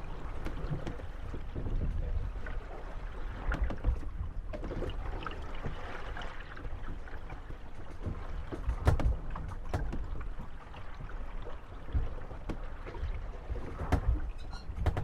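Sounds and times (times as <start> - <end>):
boat hulls creaking and knocking: 0.0 - 15.0
water lapping: 0.0 - 15.0.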